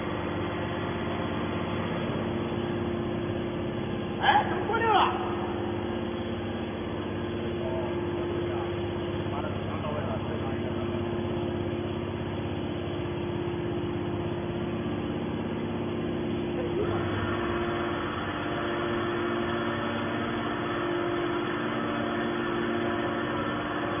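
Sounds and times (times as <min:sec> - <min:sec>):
baler machine hum: 0:00.0 - 0:24.0
high machine whine: 0:00.0 - 0:24.0.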